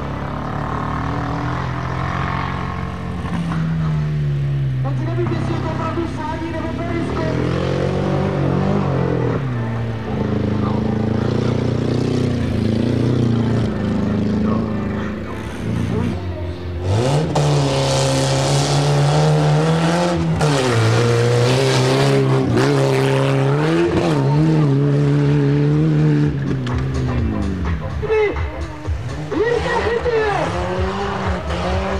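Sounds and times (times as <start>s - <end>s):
engine revving under acceleration: 0.0s - 27.9s, 28.8s - 31.9s.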